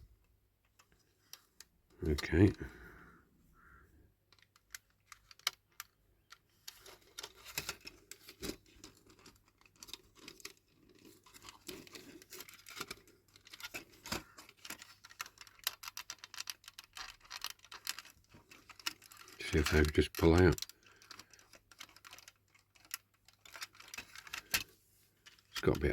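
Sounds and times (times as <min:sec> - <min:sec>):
small plastic and metal parts clicking: 0:04.3 - 0:25.9.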